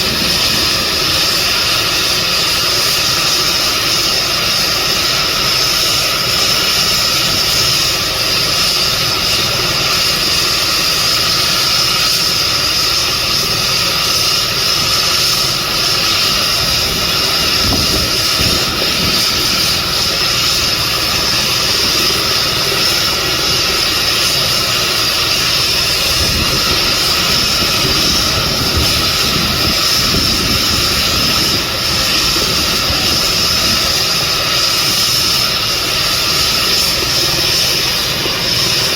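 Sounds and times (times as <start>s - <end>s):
helicopter engine and rotor: 0.0s - 38.9s
high whine: 0.0s - 38.9s.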